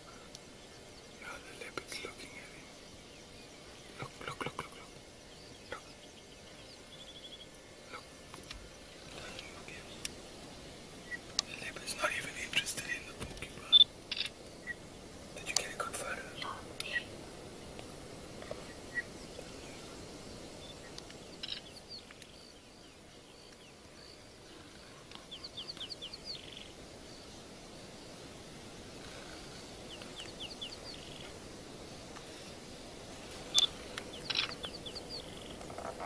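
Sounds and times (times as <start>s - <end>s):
steady bush hiss: 0.0s - 36.0s.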